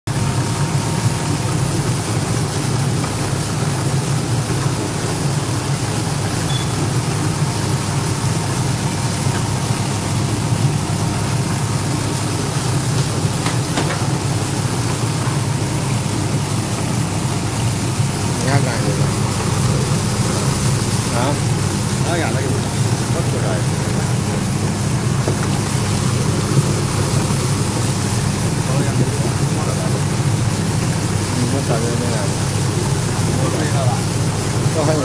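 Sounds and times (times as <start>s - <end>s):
motor hum: 0.1s - 35.0s
water washing and tumbling produce: 0.1s - 35.0s.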